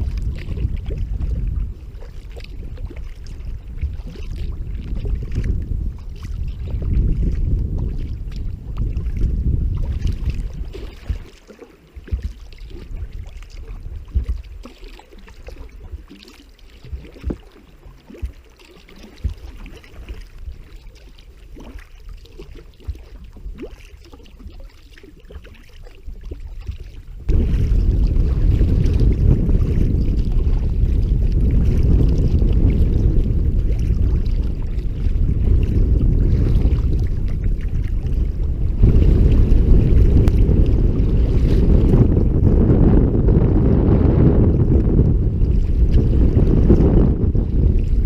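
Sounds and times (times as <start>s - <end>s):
paddle splashing water: 0.0s - 48.0s
wind rumbling on microphone: 0.0s - 48.0s.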